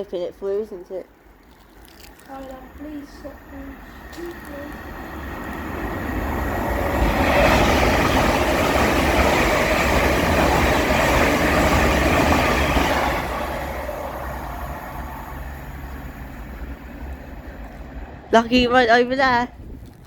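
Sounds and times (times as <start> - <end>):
train passing at speed: 2.3 - 20.0.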